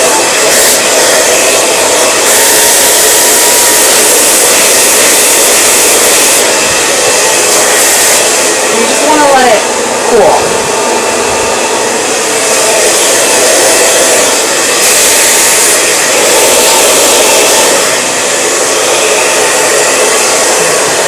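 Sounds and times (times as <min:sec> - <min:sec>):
blow dryer running: 0:00.0 - 0:21.0.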